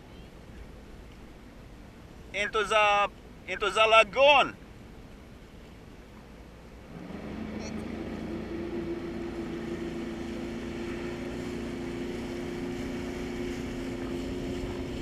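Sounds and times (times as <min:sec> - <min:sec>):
jet ski engine droning: 0:00.0 - 0:15.0.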